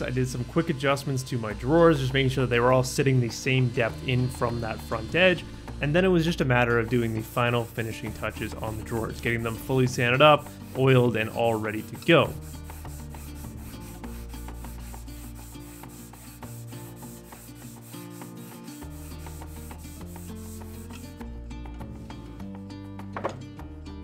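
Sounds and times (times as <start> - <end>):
sandpaper rubbing on wood: 0.0 - 21.2
quiet background music: 0.0 - 24.0.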